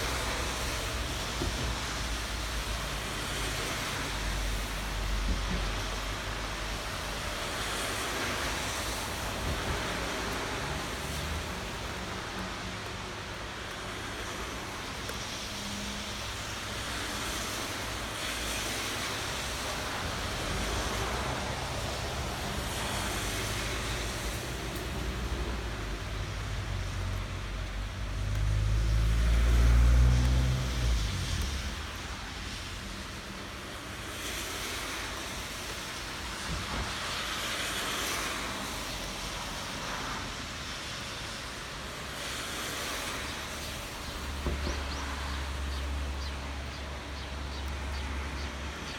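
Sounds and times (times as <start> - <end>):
rain hissing: 0.0 - 48.9.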